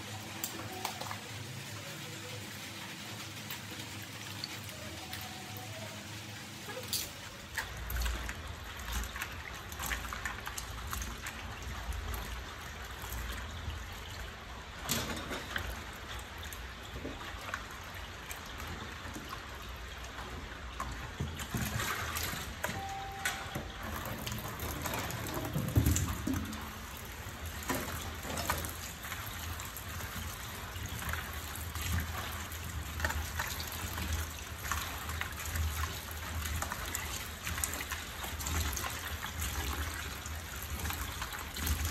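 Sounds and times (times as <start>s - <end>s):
tap water running into basin: 0.0s - 41.9s
water sloshing and splashing: 0.0s - 41.9s.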